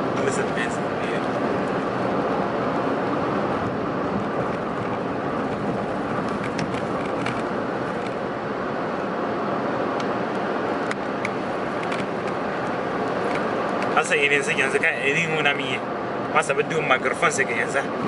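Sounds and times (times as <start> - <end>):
car cabin road and engine noise: 0.0 - 18.0.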